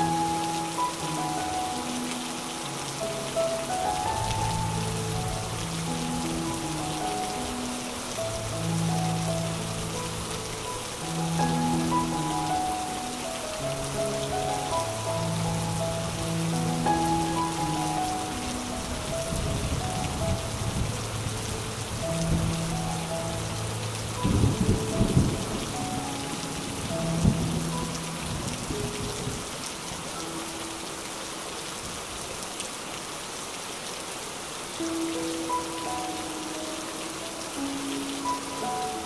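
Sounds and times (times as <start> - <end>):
soft ambient music: 0.0 - 31.8, 34.6 - 39.0
rain on foliage: 0.0 - 39.0.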